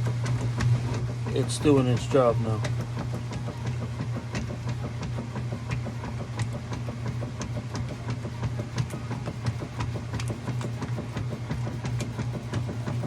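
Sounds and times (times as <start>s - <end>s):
washing machine agitator clicks: 0.0s - 13.0s
washing machine motor hum: 0.0s - 13.0s.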